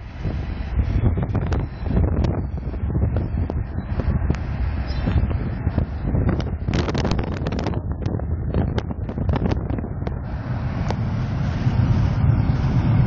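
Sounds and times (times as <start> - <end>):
car rumble on road: 0.0 - 13.0
wind buffeting microphone: 0.0 - 13.0.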